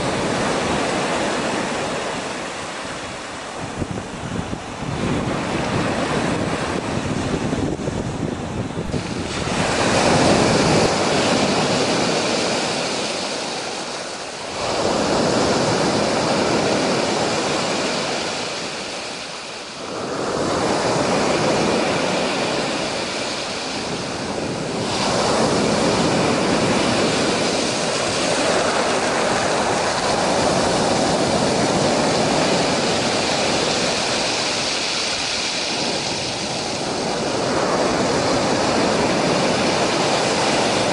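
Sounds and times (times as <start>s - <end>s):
surf breaking on shore: 0.0s - 40.9s.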